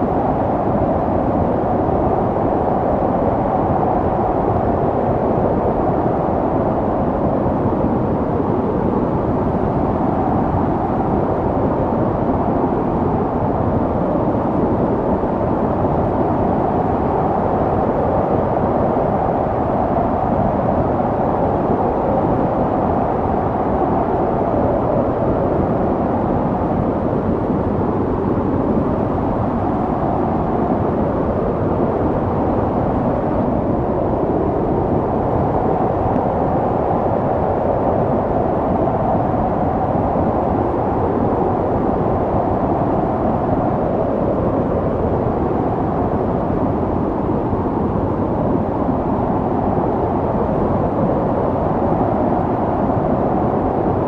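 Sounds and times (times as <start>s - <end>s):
snowstorm wind blowing: 0.0s - 54.0s.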